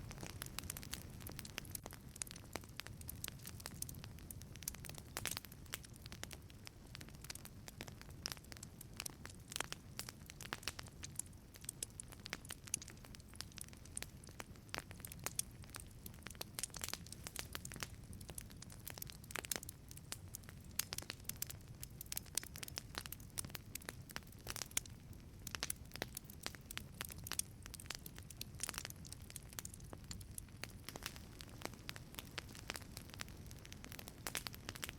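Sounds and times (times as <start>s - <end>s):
wood fire crackling in oven: 0.0s - 34.9s.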